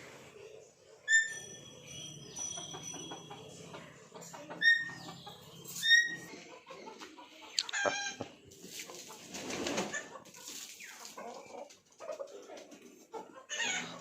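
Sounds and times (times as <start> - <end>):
chickens squawking and clucking: 0.8 - 14.0.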